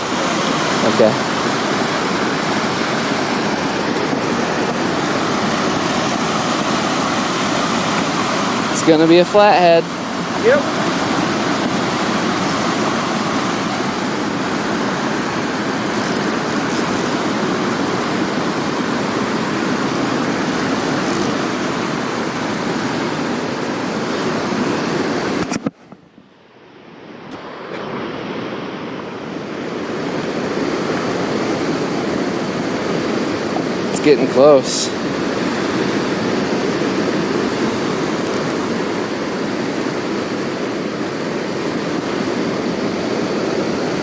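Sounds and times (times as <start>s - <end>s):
rushing wind or water: 0.0s - 44.0s.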